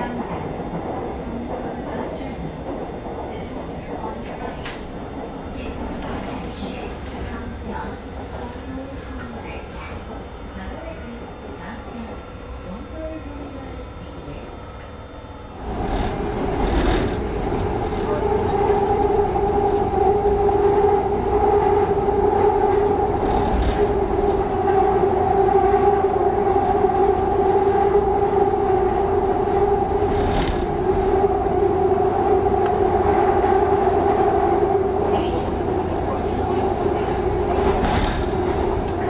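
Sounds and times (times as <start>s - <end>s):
subway train rumble: 0.0s - 39.0s.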